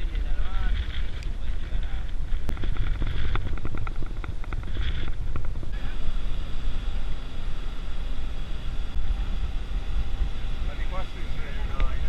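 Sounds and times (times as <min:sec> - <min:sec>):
motor boat rumble: 0:00.0 - 0:12.0
steady high whine: 0:00.0 - 0:12.0
wind buffeting microphone: 0:00.0 - 0:12.0.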